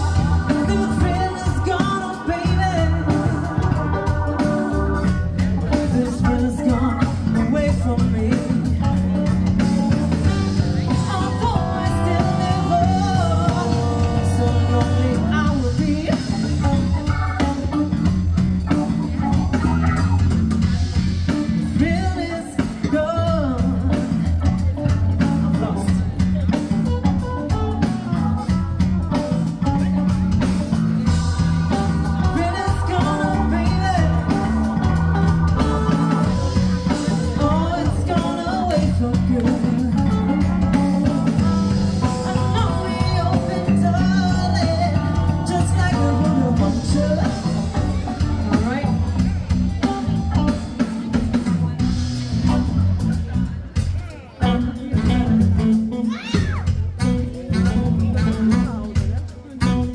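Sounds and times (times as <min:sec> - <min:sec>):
bass: 0:00.0 - 0:59.9
drums: 0:00.0 - 0:59.9
electric guitar lead: 0:00.0 - 0:59.9.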